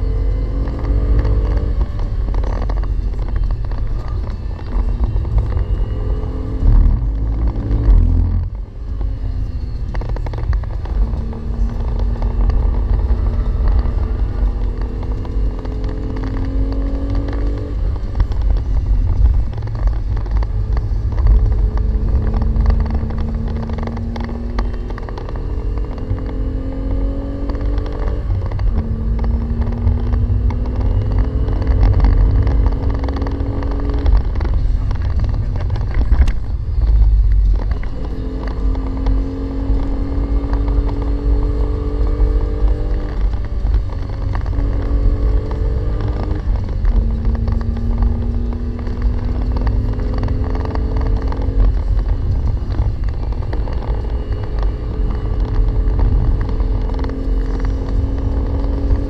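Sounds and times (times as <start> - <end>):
car engine revving in cabin: 0.0 - 59.0
heavy low rumble: 0.0 - 59.0.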